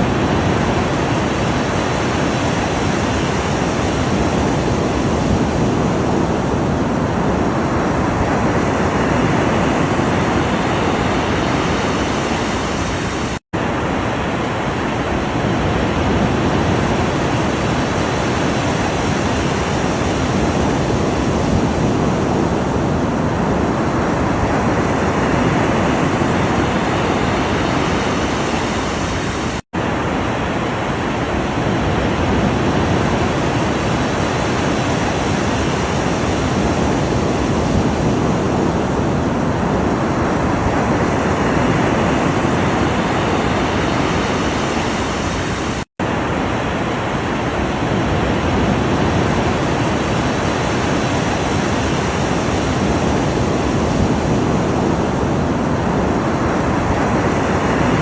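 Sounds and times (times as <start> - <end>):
ocean surf waves: 0.0 - 58.0.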